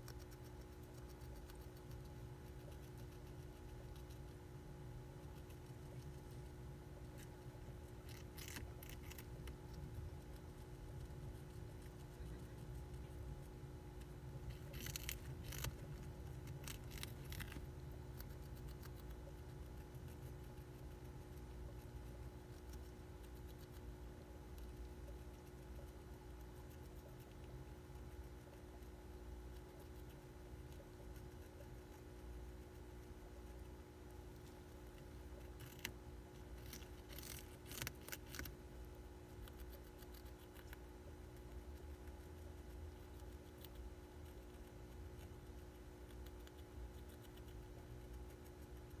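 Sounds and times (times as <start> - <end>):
hamster crunching lettuce: 0.0 - 49.0
low background hum: 0.0 - 49.0.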